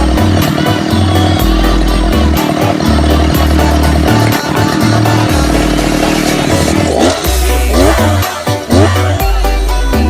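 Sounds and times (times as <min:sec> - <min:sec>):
brush cutter engine running: 0:00.0 - 0:09.1
music with heavy bass beat: 0:00.0 - 0:10.0.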